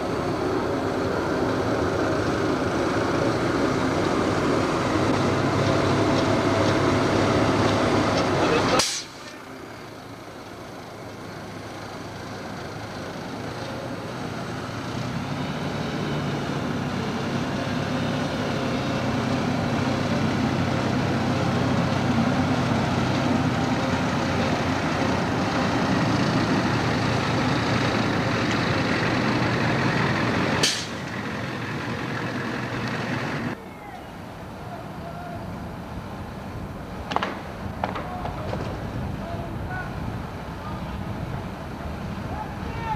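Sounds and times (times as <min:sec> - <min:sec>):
engines droning: 0:00.0 - 0:42.9.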